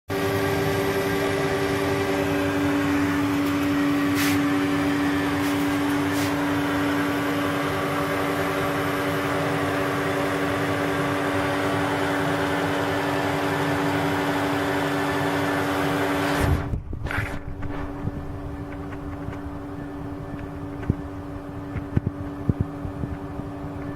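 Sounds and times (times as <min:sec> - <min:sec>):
electric fan motor humming: 0:00.1 - 0:23.9.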